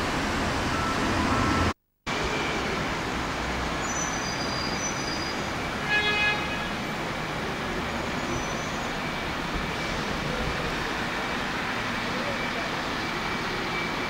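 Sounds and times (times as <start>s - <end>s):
diesel buses running: 0.0s - 14.0s.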